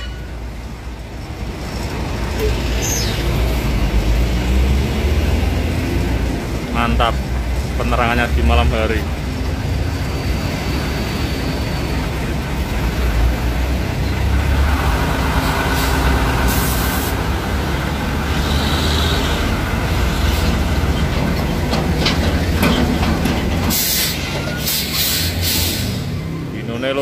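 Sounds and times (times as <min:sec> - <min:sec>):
diesel truck engine rumble: 0:00.0 - 0:27.0.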